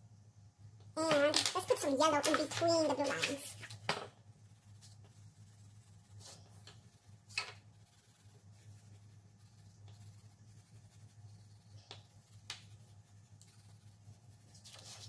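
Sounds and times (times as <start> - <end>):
low steady hum: 0.0 - 15.0
crayon scratching on paper: 1.0 - 15.0.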